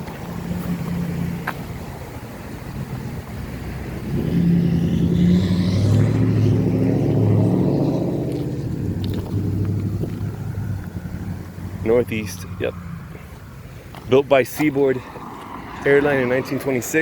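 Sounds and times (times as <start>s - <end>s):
car driving past: 2.7s - 17.0s.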